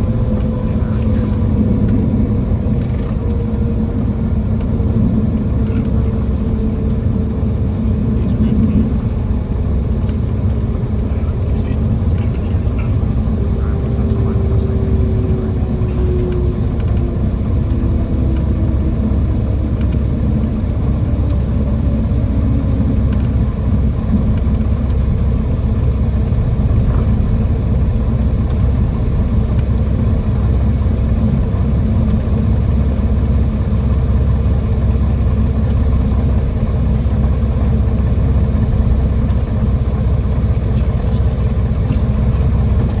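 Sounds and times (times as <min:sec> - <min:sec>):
propeller plane engine drone: 0:00.0 - 0:43.0.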